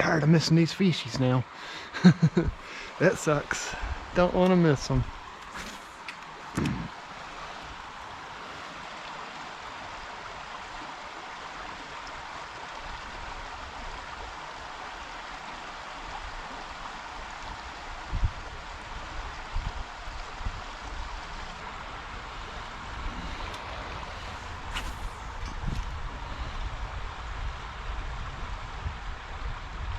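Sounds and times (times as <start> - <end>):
creek rushing: 0.0 - 29.8.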